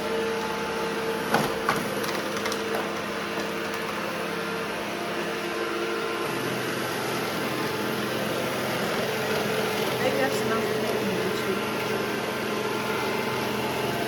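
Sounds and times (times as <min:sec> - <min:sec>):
robot vacuums humming: 0:00.0 - 0:14.0.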